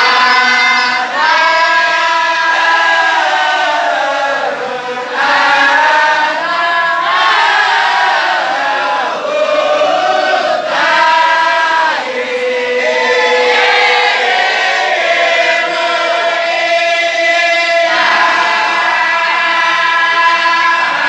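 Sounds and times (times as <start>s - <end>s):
group chanting in unison: 0.0s - 21.0s.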